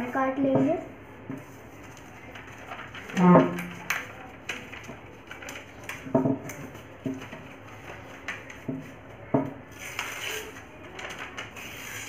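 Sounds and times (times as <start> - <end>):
paper rustling: 1.3 - 12.0.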